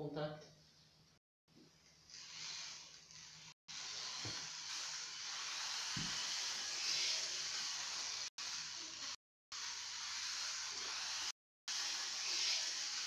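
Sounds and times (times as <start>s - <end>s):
toy electric train whirring: 2.1s - 13.0s.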